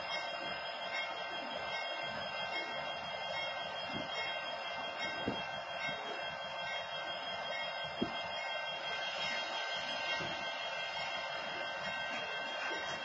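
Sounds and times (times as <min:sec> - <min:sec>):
stopped train steady noise: 0:00.0 - 0:13.0.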